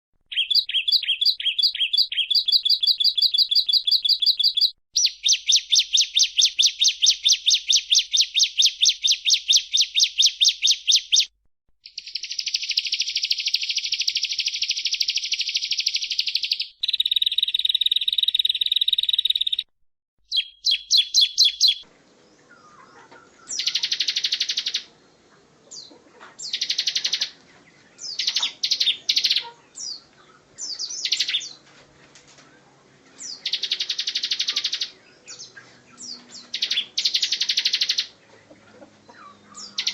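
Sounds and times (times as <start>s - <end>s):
bird singing trills: 0.3s - 19.7s, 20.3s - 31.6s, 33.2s - 39.9s.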